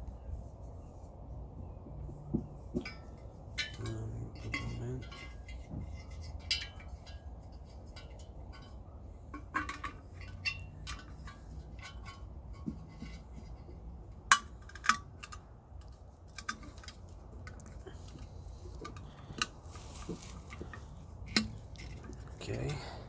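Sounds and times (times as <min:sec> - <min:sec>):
low steady hum: 0:00.0 - 0:23.0
light clicks and clinks of hoses: 0:01.9 - 0:23.0.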